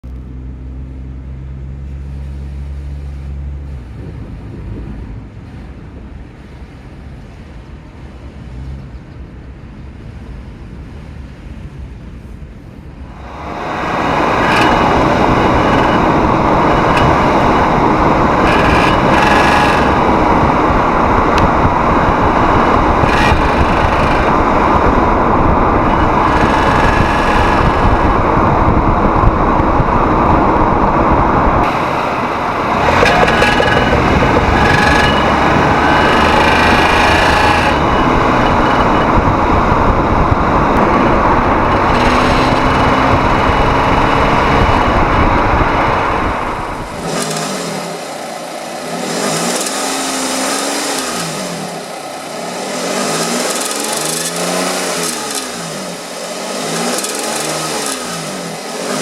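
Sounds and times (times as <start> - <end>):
car engine and road rumble: 0.0 - 59.0
loud steady rushing noise: 9.3 - 59.0.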